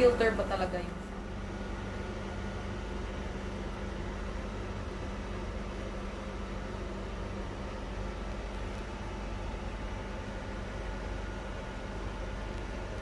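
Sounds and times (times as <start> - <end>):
low even hum: 0.0 - 13.0.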